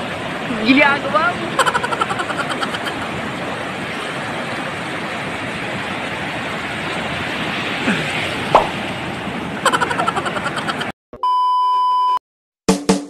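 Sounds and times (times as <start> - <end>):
sea surf breaking: 0.0 - 10.9.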